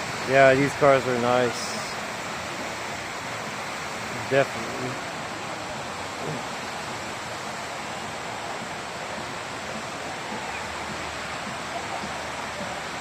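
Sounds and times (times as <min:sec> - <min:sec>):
steady outdoor hiss: 0:00.0 - 0:13.0
faint distant voices: 0:00.2 - 0:13.0.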